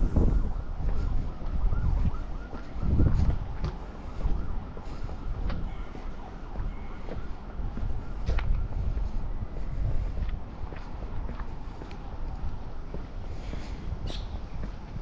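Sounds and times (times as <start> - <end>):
faint siren wailing: 0.0 - 15.0
wind rumbling on microphone: 0.0 - 15.0.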